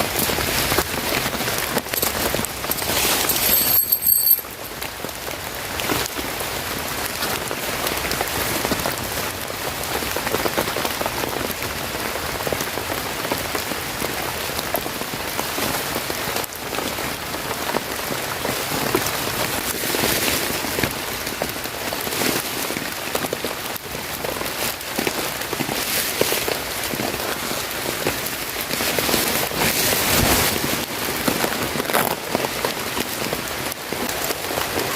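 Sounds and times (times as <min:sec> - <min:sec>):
rain pattering on a surface: 0:00.0 - 0:34.9.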